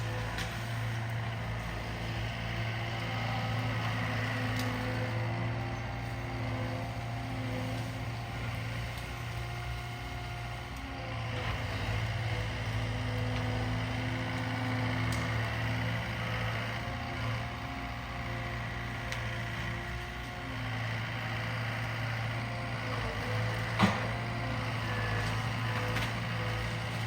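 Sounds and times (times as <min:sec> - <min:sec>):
diesel loader engine humming: 0:00.0 - 0:27.0.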